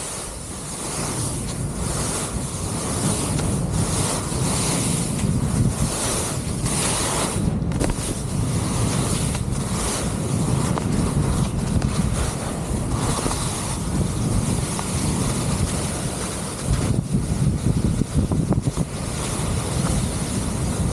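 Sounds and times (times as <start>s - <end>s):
skis hissing across snow: 0.0s - 20.9s
wind on microphone: 0.0s - 20.9s.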